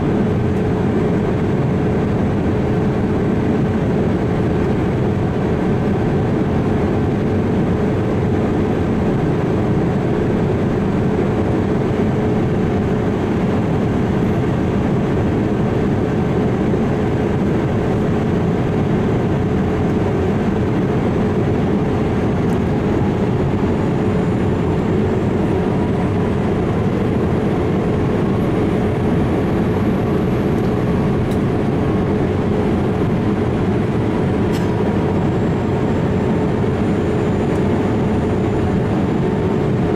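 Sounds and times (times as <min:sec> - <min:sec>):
jet airliner engine drone: 0:00.0 - 0:39.9.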